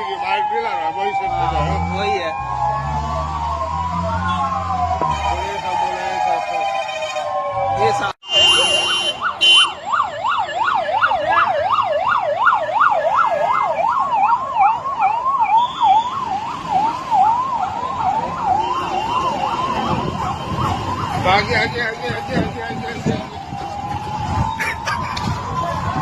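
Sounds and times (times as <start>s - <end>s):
electronic siren yelping: 0.0s - 26.0s
fainter higher siren: 0.0s - 26.0s.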